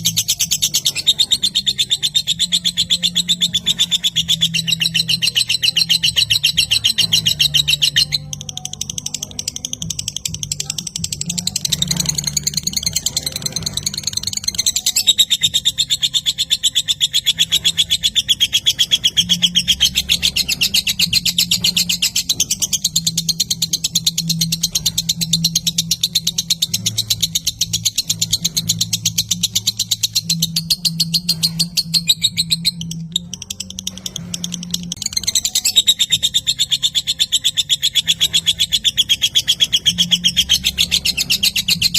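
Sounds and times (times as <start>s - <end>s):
lovebird chattering song: 0.0s - 41.9s.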